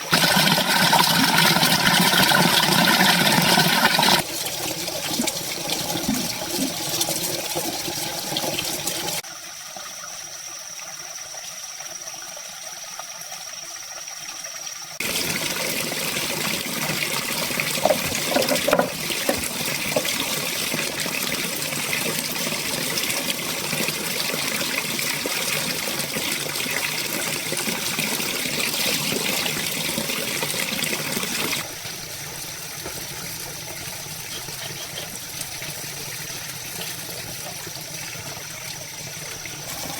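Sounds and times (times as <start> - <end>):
running water rushing: 0.0 - 9.3, 14.9 - 39.9.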